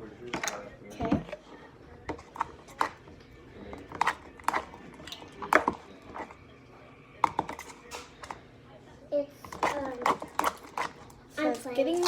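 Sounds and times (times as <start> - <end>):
spoon stirring slime in a bowl: 0.0 - 8.5, 9.4 - 12.0.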